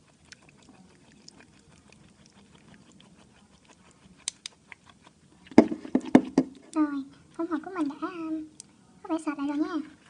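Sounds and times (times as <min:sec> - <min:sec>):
slime being stirred squishing: 0:00.0 - 0:10.0.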